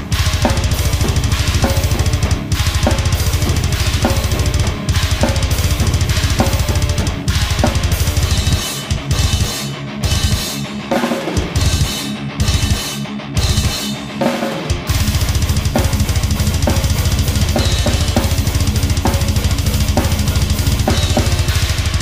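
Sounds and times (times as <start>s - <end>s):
crashing cymbals: 0.0s - 10.7s, 14.9s - 22.0s
rapid bass drum strokes: 0.0s - 22.0s.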